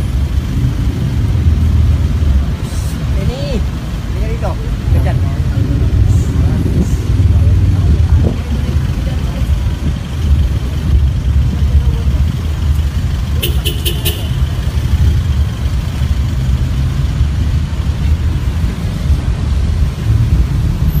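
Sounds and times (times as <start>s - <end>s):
low rumble of street noise: 0.0s - 21.0s.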